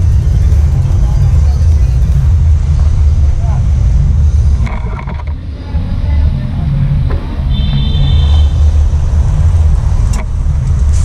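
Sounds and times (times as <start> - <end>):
high whine: 0.0 - 11.0
motorcycle engine rumbling: 0.0 - 11.0.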